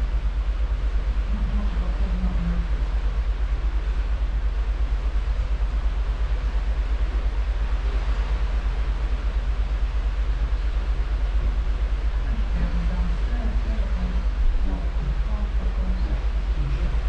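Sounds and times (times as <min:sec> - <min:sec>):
rush of ship's wake: 0:00.0 - 0:17.0
wind buffeting microphone: 0:00.0 - 0:17.0.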